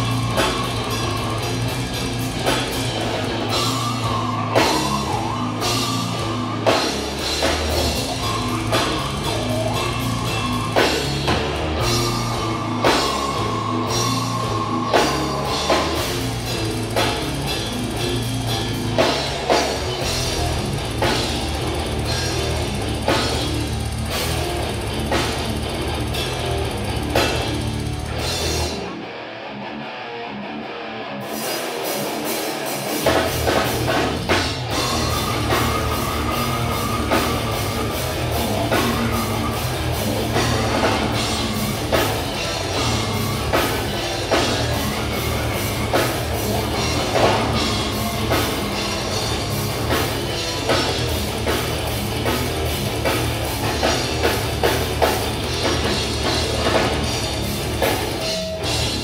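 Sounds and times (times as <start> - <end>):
fast drum kit: 0.0 - 29.1, 31.2 - 59.0
distorted electric guitars: 0.0 - 59.0.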